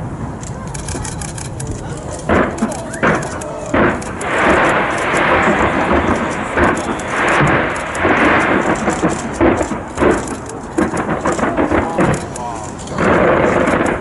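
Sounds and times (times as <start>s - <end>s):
fireworks crackling and rumbling: 0.0s - 14.0s.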